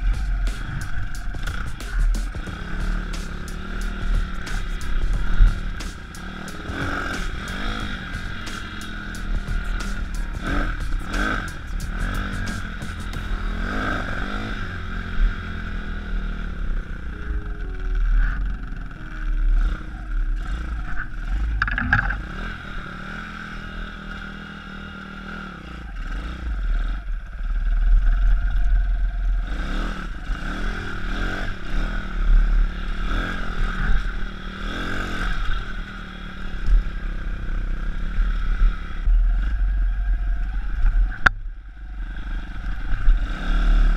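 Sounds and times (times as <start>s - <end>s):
pit bike engine revving: 0.0s - 17.2s, 18.3s - 43.9s.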